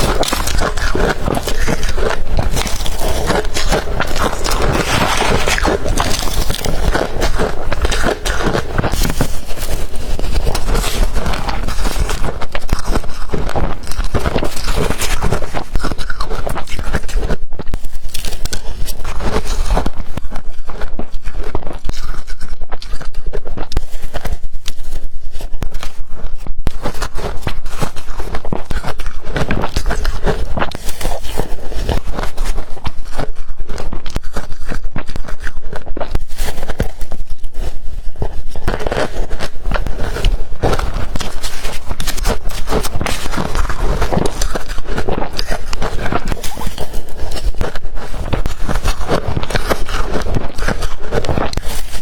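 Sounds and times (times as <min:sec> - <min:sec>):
ice crunching being bitten: 0:00.0 - 0:26.0, 0:26.7 - 0:52.0.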